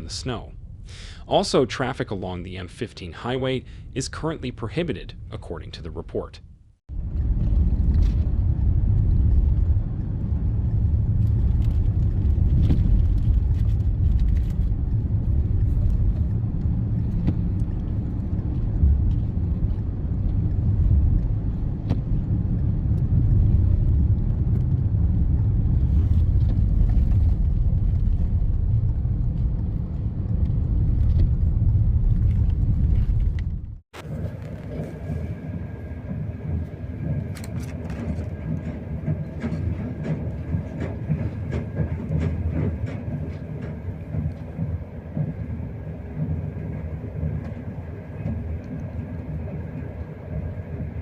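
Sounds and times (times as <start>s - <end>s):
wind buffeting microphone: 6.9s - 51.0s.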